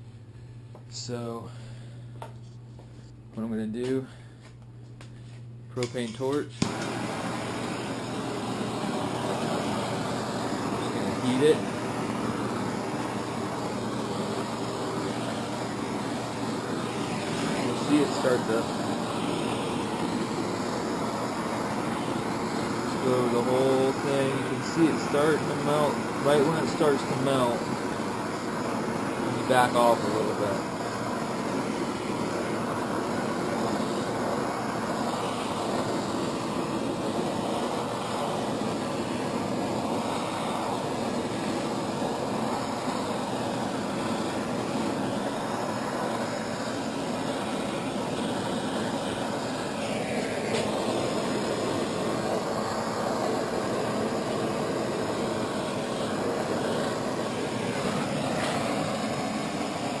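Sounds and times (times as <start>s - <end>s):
propane torch flame rushing: 5.2s - 60.0s.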